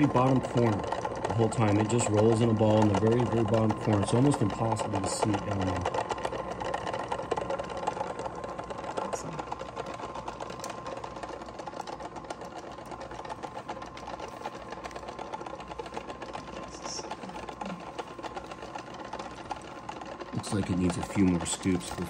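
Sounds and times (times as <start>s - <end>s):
tumbler barrel rattling: 0.0s - 22.0s
tumbler motor hum: 0.0s - 22.0s.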